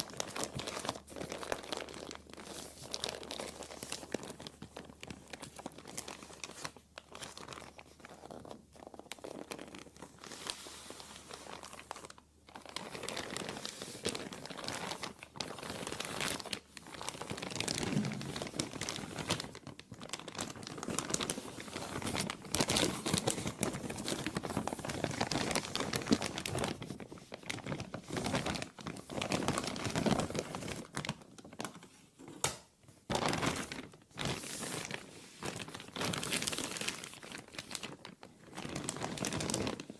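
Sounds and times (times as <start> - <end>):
plastic being crumpled: 0.0 - 39.9.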